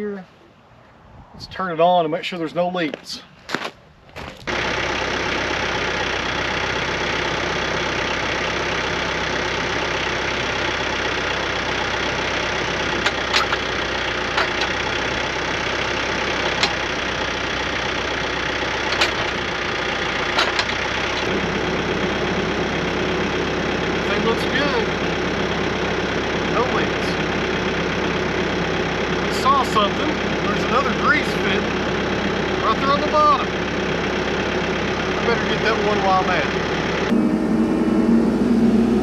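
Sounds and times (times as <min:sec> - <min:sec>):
tractor diesel engine idling: 0:04.5 - 0:39.0.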